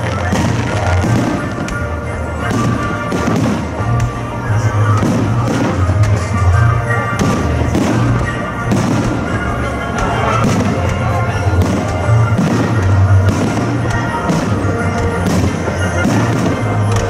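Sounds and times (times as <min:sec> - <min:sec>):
fireworks bangs: 0:00.0 - 0:17.0
loud music with strong bass: 0:00.0 - 0:17.0.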